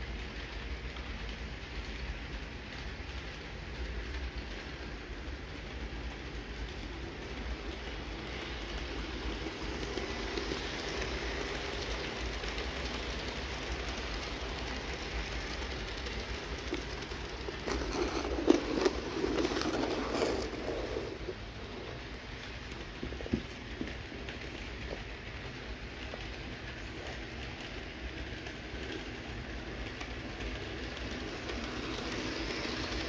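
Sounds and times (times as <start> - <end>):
model train rolling hum: 0.0 - 33.0
wheels clicking over rail joints: 0.0 - 33.0.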